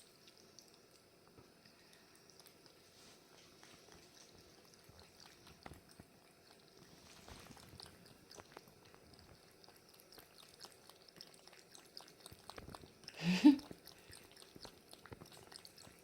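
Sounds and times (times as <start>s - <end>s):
cat lapping water: 0.0s - 16.0s.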